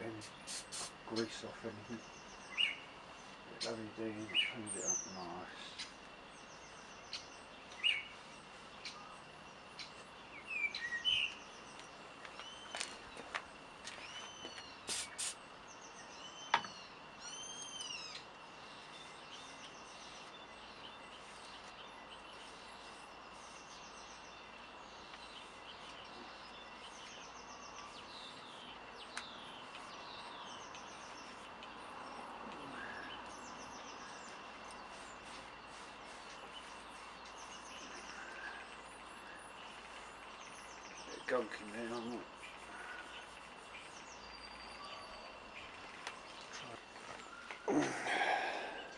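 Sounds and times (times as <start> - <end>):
birds chirping and trilling: 0.0 - 48.9.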